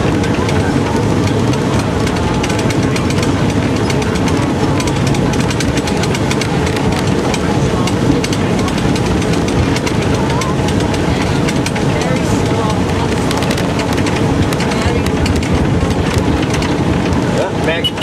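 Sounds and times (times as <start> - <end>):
cog railway train running: 0.0 - 18.0.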